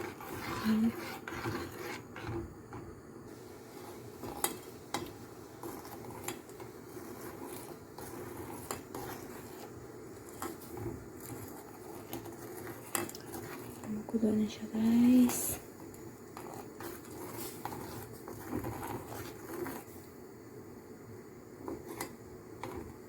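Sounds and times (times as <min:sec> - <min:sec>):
spoon stirring in pot: 0:00.0 - 0:20.2, 0:21.5 - 0:23.0.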